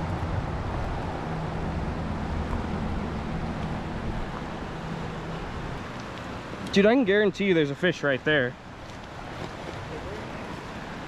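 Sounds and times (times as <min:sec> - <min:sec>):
creek water rushing: 0:00.0 - 0:11.0
traffic engine hum: 0:00.0 - 0:11.0.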